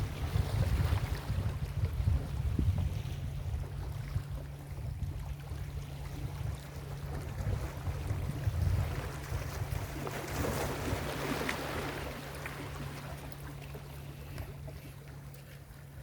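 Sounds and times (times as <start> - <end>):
ocean waves breaking: 0.0 - 16.0
wind rumble on microphone: 0.0 - 16.0.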